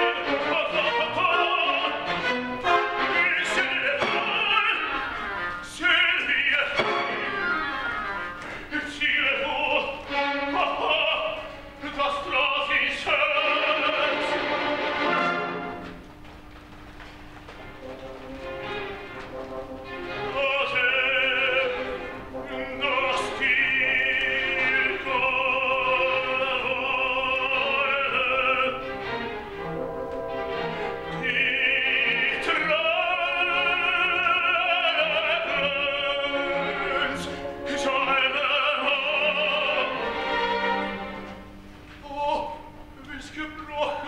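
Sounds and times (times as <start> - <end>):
operatic tenor singing: 0.0 - 15.8, 17.8 - 44.0
orchestral accompaniment: 0.0 - 16.1, 17.5 - 42.9.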